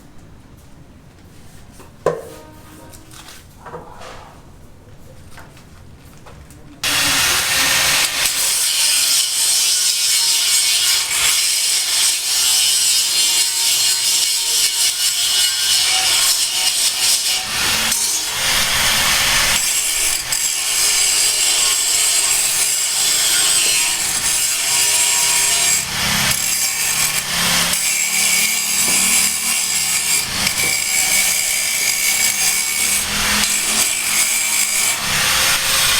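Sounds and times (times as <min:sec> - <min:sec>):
power tool cutting or grinding: 0:06.8 - 0:35.9.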